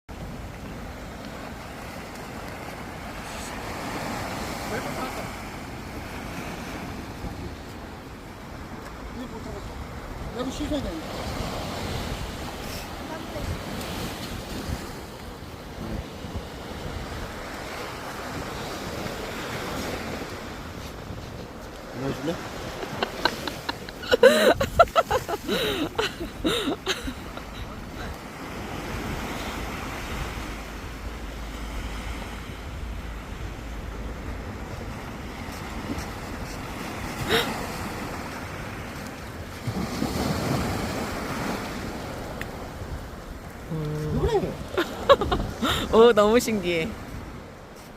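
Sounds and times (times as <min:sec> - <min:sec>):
sea waves washing on shore: 0:00.1 - 0:47.9
wind buffeting microphone: 0:05.7 - 0:45.9.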